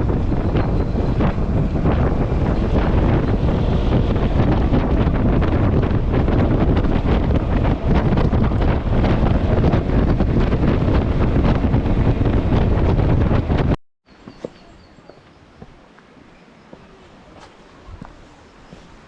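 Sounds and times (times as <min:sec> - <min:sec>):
wind buffeting microphone: 0:00.0 - 0:13.8, 0:16.7 - 0:19.0.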